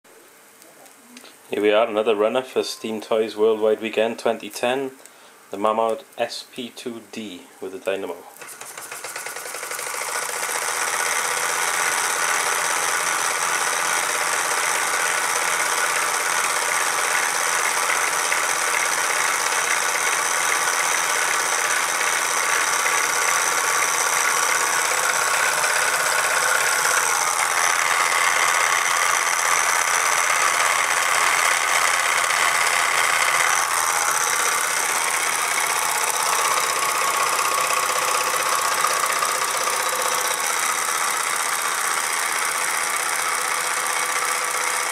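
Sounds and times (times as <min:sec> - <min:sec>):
toy steam engine clattering: 0:08.4 - 0:44.9.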